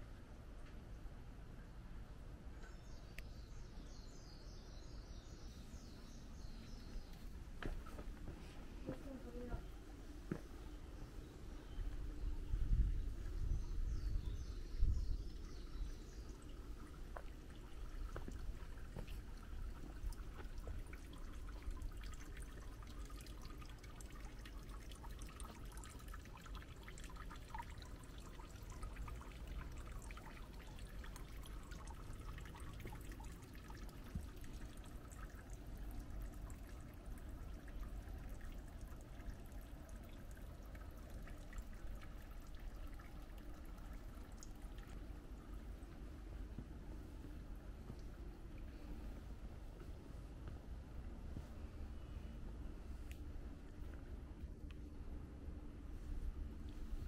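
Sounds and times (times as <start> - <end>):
water trickling and dripping: 0.1 - 57.0.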